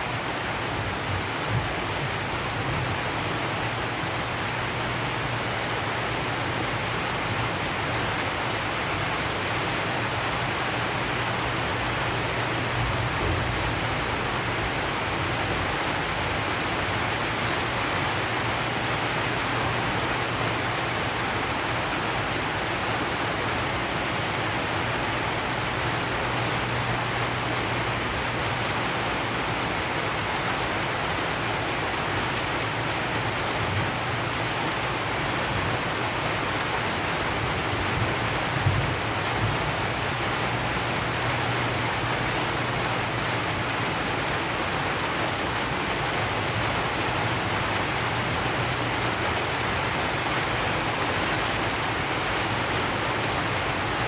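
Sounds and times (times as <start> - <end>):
rain on a metal roof: 0.0 - 54.0.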